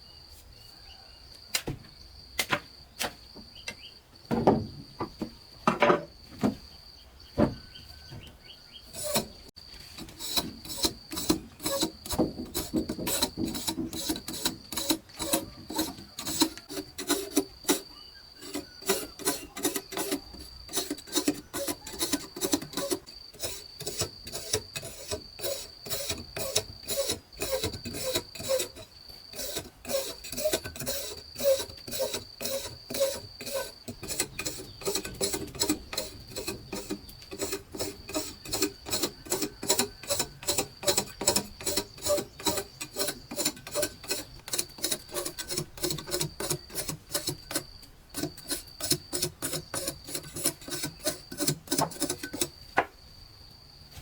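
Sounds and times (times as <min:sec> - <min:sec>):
knocks and scrapes of handwork: 0:01.6 - 0:06.7, 0:07.3 - 0:53.0.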